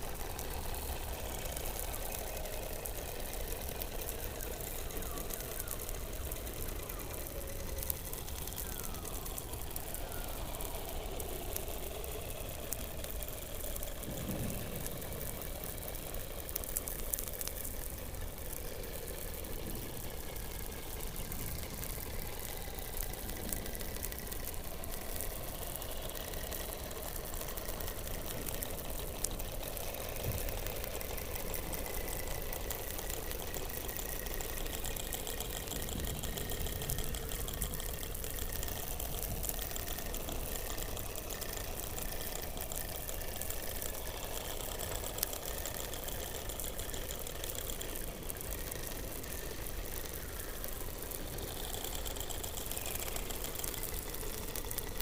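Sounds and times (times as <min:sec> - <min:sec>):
underwater hum and hiss: 0:00.0 - 0:55.0.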